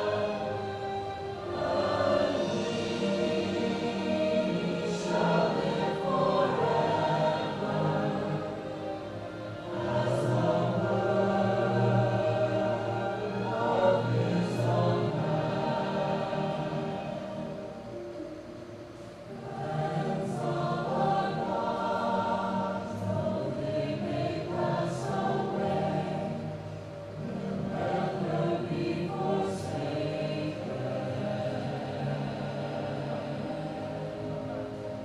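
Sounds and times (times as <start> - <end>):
choir singing: 0.0 - 35.0.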